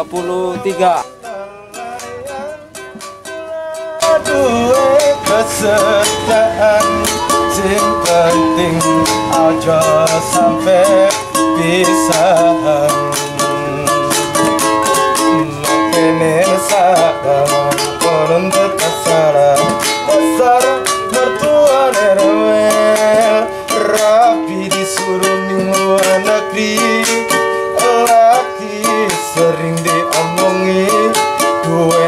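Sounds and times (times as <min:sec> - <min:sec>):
song with plucked strings: 0:00.0 - 0:32.0.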